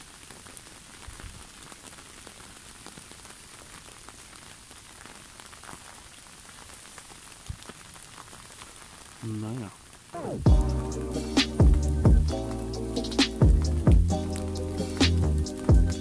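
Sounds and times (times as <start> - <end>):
rain falling on water: 0.0 - 16.0.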